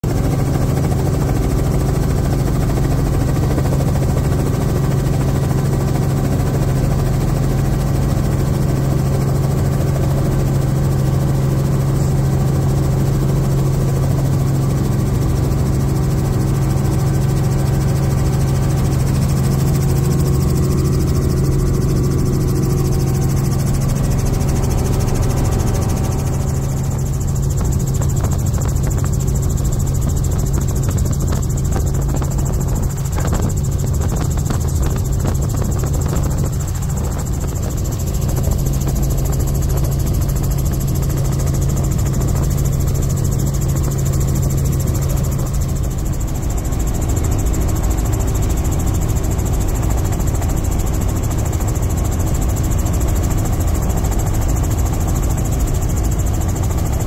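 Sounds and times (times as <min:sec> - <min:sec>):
helicopter engine and rotors droning: 0:00.0 - 0:57.0.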